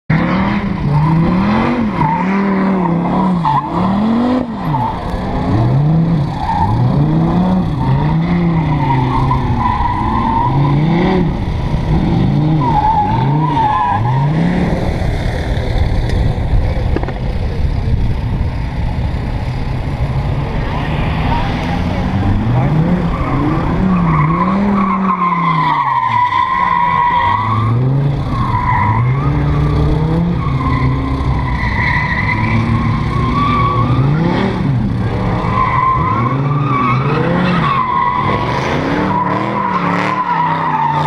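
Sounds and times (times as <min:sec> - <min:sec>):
car engine revving: 0:00.1 - 0:41.0
engine rumble: 0:00.1 - 0:41.0.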